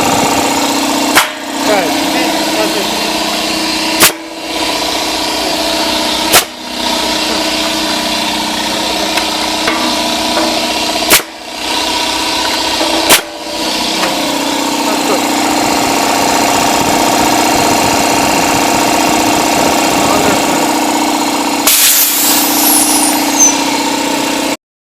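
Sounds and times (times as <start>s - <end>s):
air compressor humming: 0.0s - 24.6s.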